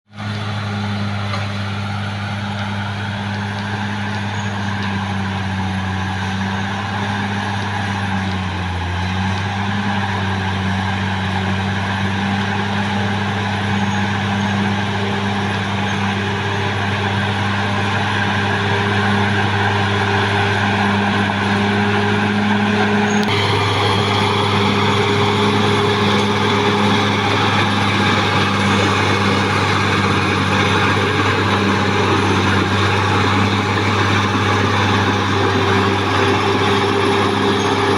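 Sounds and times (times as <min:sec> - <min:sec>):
bulldozer diesel engine running: 0:00.1 - 0:37.9.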